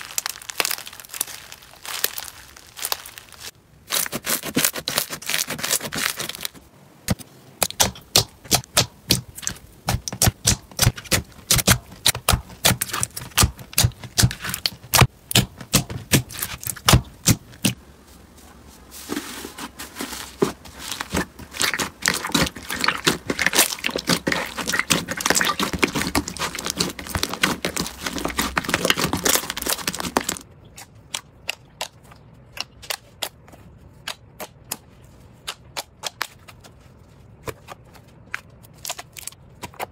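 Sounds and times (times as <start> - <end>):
crunchy slime crackling and popping: 0.0 - 17.8, 20.6 - 34.8, 37.4 - 39.9.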